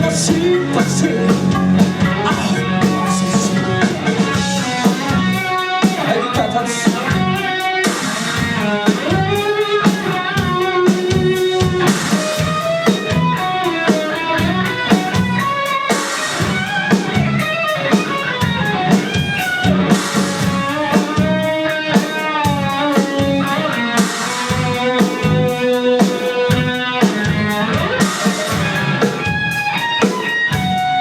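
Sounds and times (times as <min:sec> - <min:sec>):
bass: 0:00.0 - 0:31.0
drum kit beat: 0:00.0 - 0:31.0
electric guitar melody: 0:00.0 - 0:31.0.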